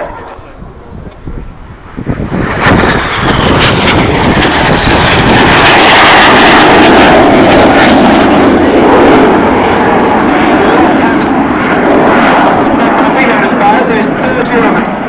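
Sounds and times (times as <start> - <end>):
loud jet engine noise: 0.0 - 15.0.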